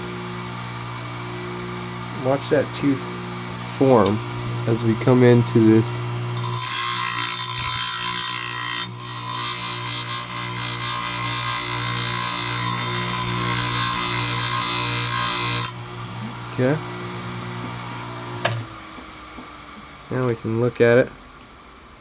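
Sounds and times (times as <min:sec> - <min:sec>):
grinding wheel motor hum: 0:00.0 - 0:21.0.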